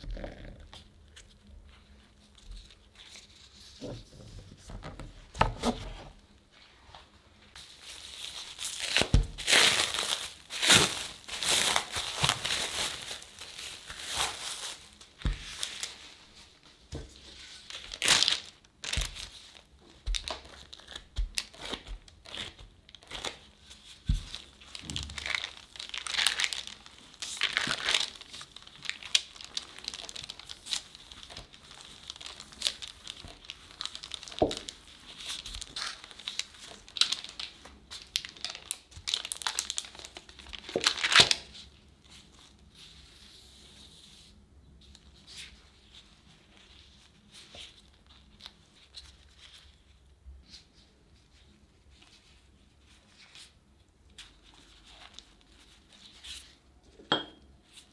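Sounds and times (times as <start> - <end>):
plastic wrap crinkling: 7.5 - 43.4, 44.9 - 57.0.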